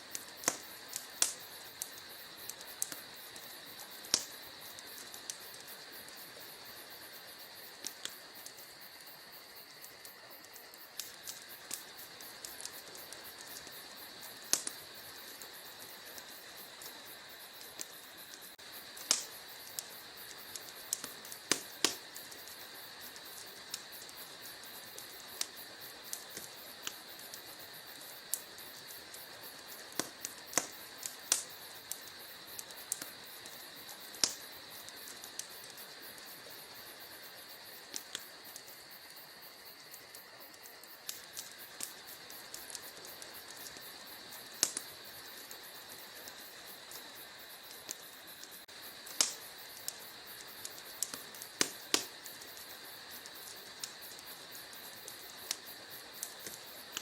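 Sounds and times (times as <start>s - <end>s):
crickets chirring: 0.0s - 57.0s
wood fire crackling and popping: 0.0s - 57.0s.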